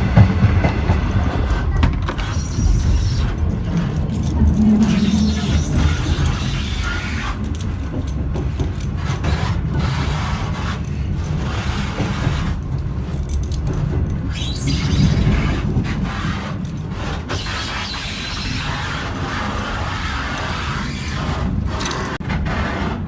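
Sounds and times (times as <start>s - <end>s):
train wheels rumbling on rails: 0.0s - 23.0s
carriage rattling and scraping: 0.2s - 23.0s.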